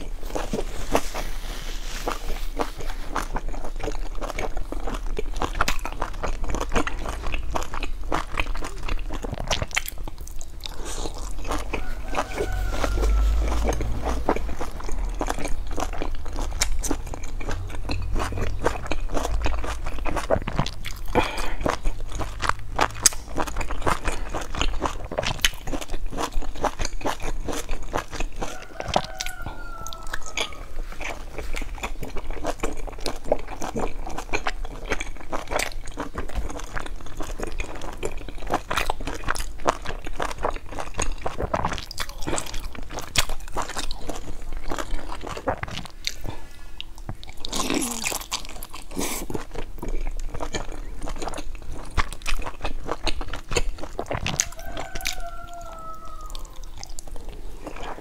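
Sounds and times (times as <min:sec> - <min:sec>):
crunchy chewing of bun: 0:00.0 - 0:58.0.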